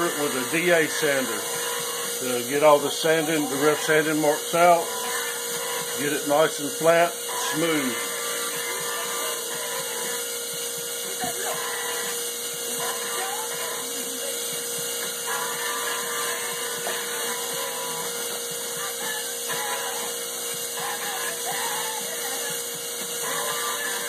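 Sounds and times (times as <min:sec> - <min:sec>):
sander whining: 0:00.0 - 0:24.0.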